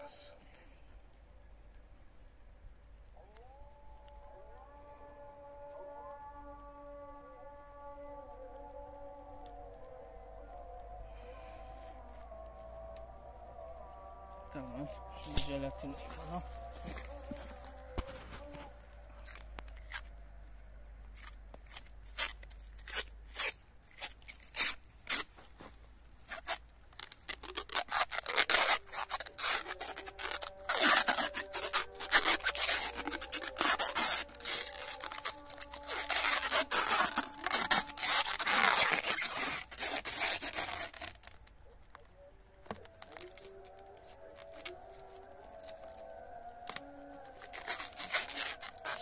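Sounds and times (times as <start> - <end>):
cling film crinkling: 2.9 - 49.0.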